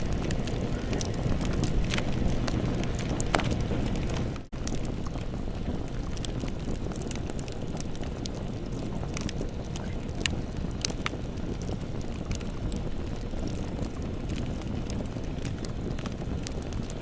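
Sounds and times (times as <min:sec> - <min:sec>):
campfire crackling and popping: 0:00.0 - 0:17.0
low rush of flame: 0:00.0 - 0:17.0.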